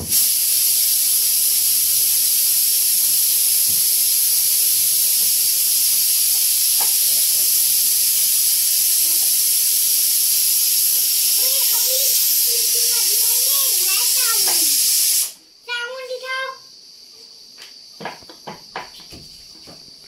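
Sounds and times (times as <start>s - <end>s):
pressure cooker steam hiss: 0.0s - 19.2s.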